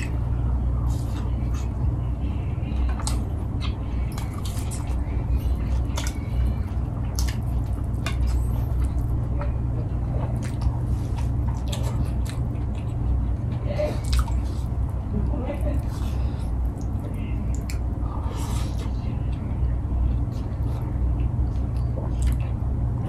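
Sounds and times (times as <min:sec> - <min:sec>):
low hum: 0:00.0 - 0:23.0
wet chewing and lip smacks: 0:02.8 - 0:15.0, 0:15.8 - 0:19.5, 0:20.1 - 0:22.6.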